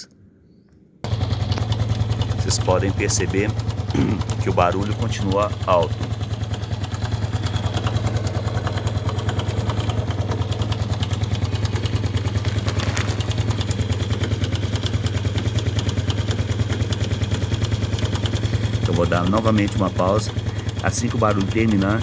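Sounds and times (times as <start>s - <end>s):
motorcycle engine idling: 1.0s - 22.0s.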